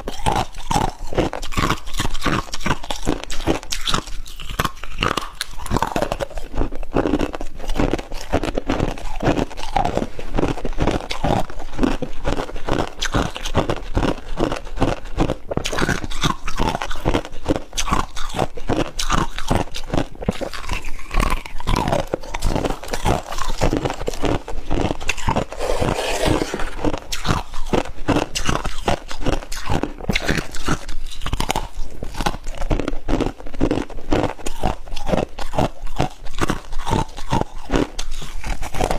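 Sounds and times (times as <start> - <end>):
person chewing crunchy frost: 0.0 - 38.9.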